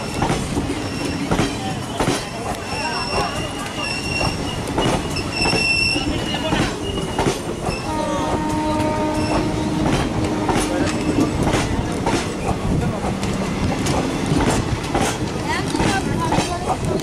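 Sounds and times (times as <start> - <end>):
train rumble: 0.0 - 17.0
wheels clickety-clack on rail joints: 0.0 - 17.0.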